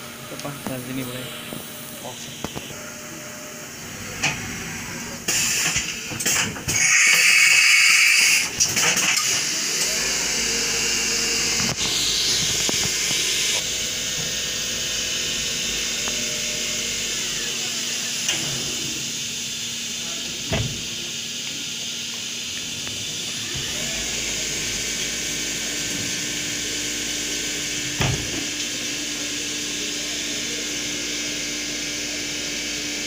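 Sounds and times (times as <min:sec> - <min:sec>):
milling machine hum: 0:00.0 - 0:33.0.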